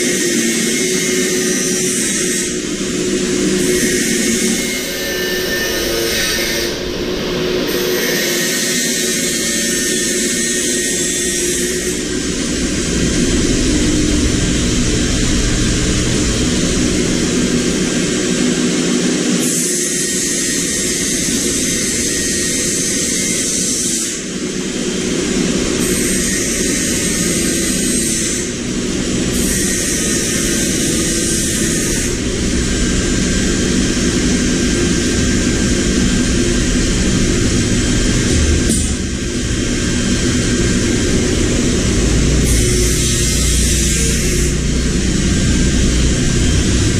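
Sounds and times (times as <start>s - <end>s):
motor running loudly: 0.0s - 46.9s.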